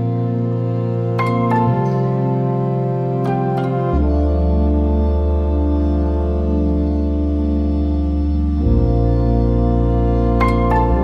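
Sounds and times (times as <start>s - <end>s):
soft background music chords: 0.0s - 11.0s.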